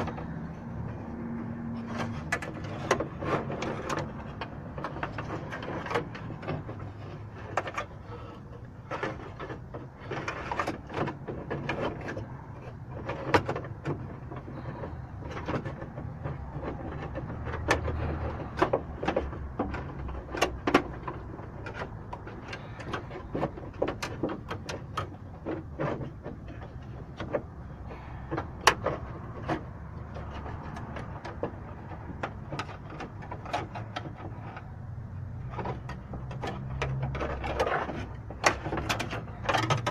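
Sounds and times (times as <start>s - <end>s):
small parts clicking and knocking: 0.0s - 39.9s.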